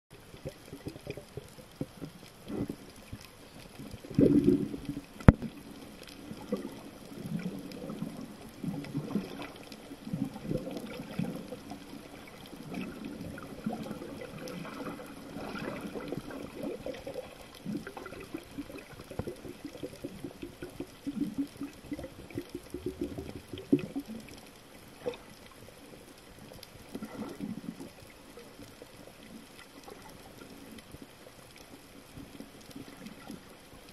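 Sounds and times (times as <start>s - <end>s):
muffled water sloshing and gurgling: 0.1s - 33.9s.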